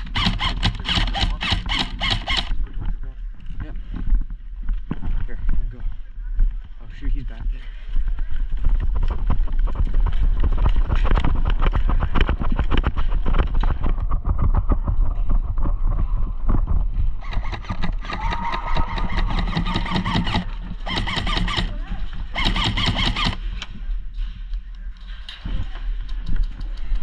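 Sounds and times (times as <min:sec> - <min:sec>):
wind rumble on microphone: 0:02.4 - 0:21.0, 0:23.2 - 0:27.0.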